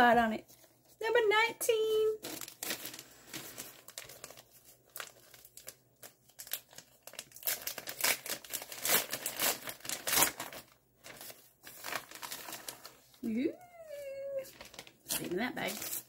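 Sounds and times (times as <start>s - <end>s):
plastic bag crinkling: 1.7s - 16.0s.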